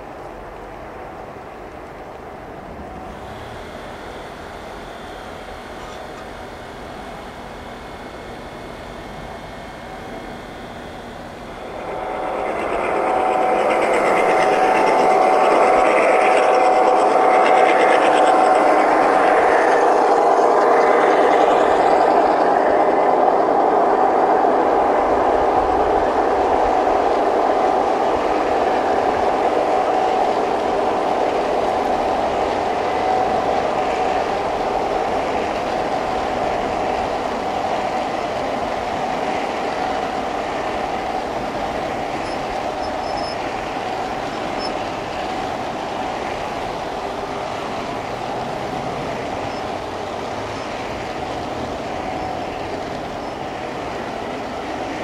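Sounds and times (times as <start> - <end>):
model train rolling: 0.0 - 55.0.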